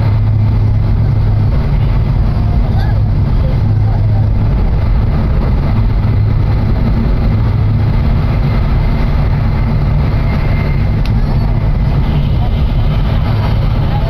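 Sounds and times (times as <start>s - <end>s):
train rumble inside cabin: 0.0s - 14.0s.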